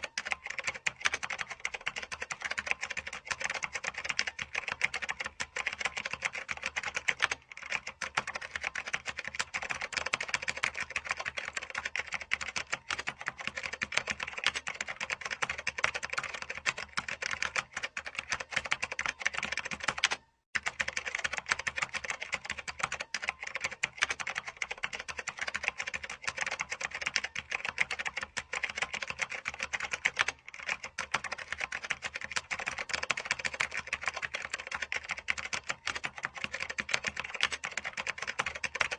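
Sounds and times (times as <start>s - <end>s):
keyboard typing fast: 0.0s - 38.9s.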